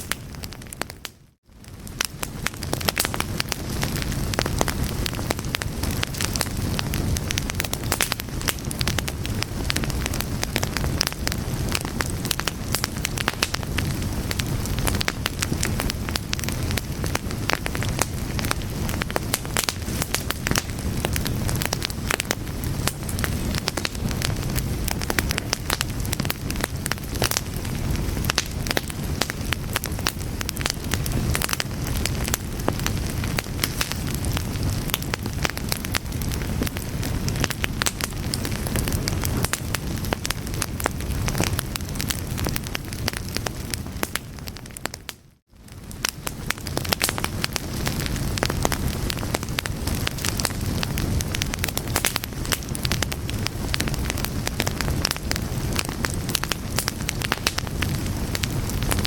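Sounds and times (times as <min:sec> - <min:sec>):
fire crackling and popping: 0:00.0 - 0:59.0
low fire rumble: 0:00.0 - 0:59.0.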